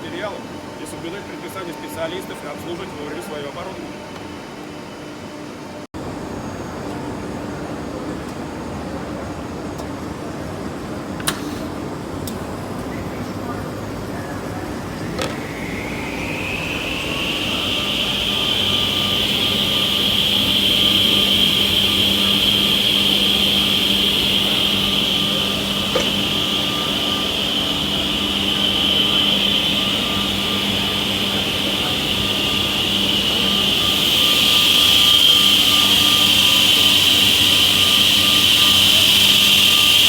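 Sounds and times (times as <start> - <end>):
machine motor whine and hum: 0.0 - 40.0.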